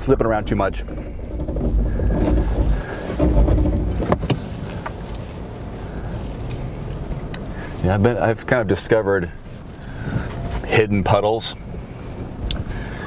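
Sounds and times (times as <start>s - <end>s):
engine rumbling in deep snow: 0.0s - 13.0s.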